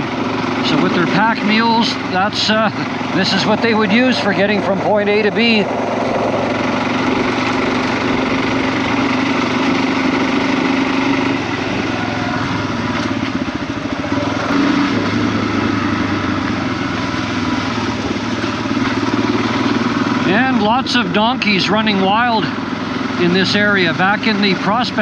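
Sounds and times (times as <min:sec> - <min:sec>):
small vehicle engine running: 0:00.0 - 0:25.0.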